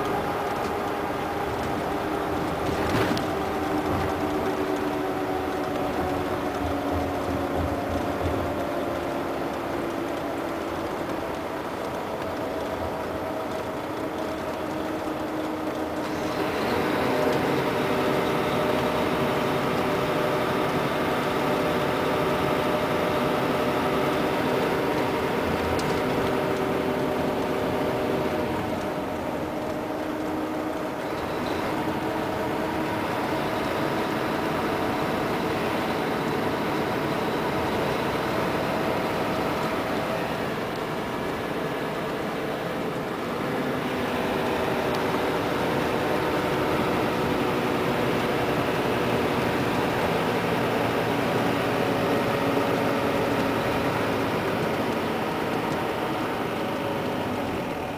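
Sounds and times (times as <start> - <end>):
diesel engine running: 0.0 - 57.9
road noise: 0.0 - 57.9.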